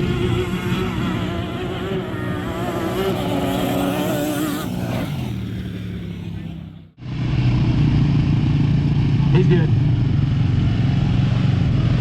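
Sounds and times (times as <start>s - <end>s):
quad bike engines racing: 0.0s - 12.0s.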